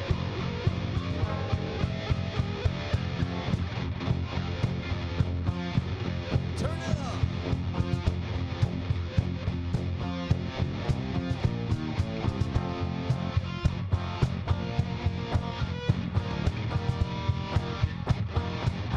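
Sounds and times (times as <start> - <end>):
rock band playing live: 0.0 - 18.9.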